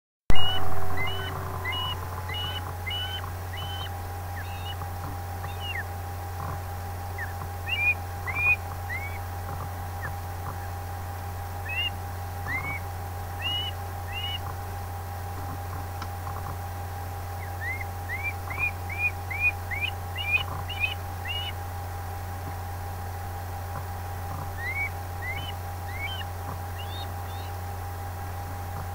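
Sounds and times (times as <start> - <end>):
ospreys calling: 0.3 - 14.8, 15.5 - 21.6, 23.8 - 27.7
steady hum: 0.3 - 28.9.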